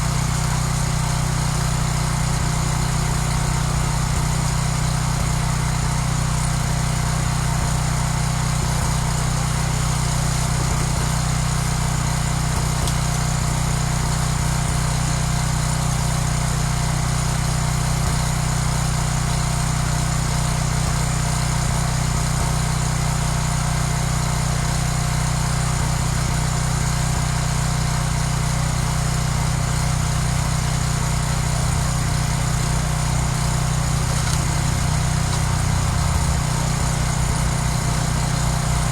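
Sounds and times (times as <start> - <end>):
small engine humming: 0.0 - 38.9.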